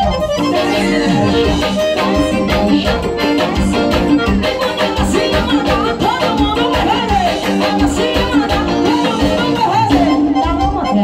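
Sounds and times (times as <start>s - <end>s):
band music with steady beat: 0.0s - 11.0s.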